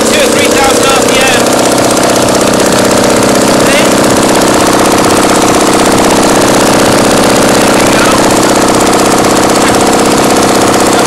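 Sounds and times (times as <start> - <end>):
engine running loudly: 0.0 - 11.0.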